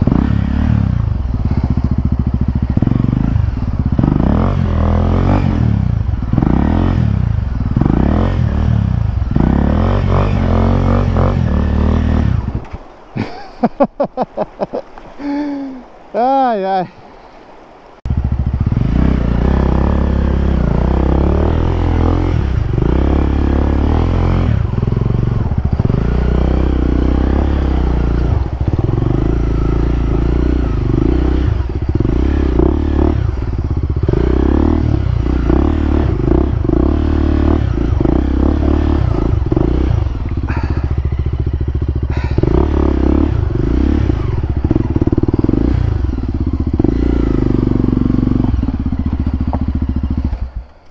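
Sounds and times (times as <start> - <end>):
motorcycle engine running: 0.0 - 12.7, 18.1 - 50.9.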